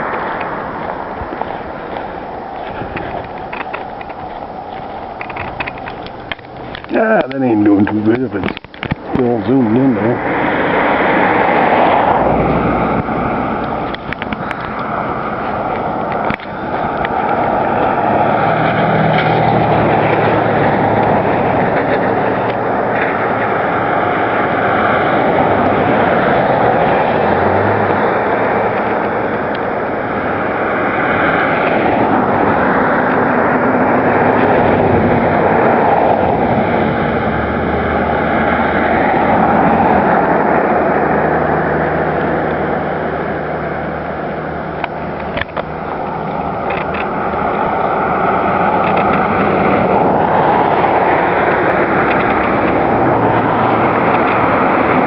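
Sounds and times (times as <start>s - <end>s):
vehicle running noise: 0.0s - 55.0s.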